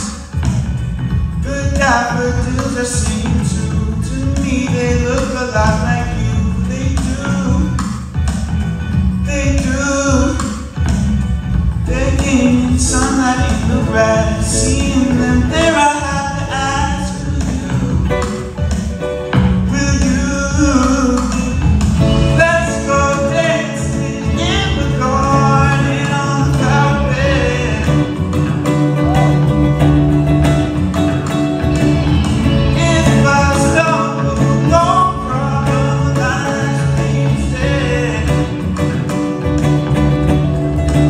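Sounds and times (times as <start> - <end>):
man singing: 0.0 - 0.6, 1.3 - 8.3, 8.9 - 11.2, 11.8 - 29.6, 31.6 - 39.4
electric guitar: 0.0 - 41.0.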